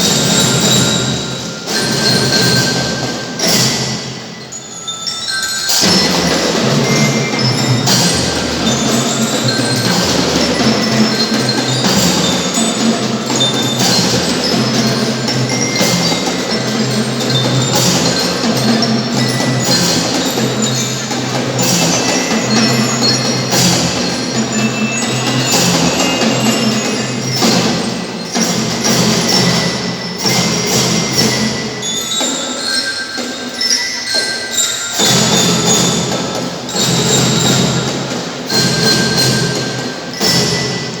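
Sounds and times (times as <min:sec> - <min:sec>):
steady drum beat: 0:00.0 - 0:04.5, 0:05.8 - 0:32.5, 0:35.0 - 0:41.0
glockenspiel melody: 0:00.0 - 0:41.0.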